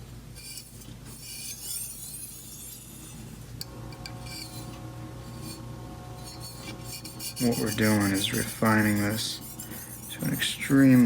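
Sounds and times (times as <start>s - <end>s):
knife rasping on sharpening stone: 0.4s - 5.6s, 6.2s - 11.0s.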